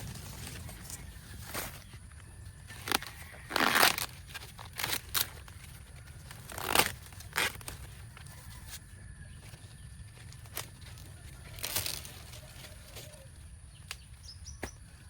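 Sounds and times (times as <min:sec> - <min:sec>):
corn husks tearing and rustling: 0:00.0 - 0:15.0.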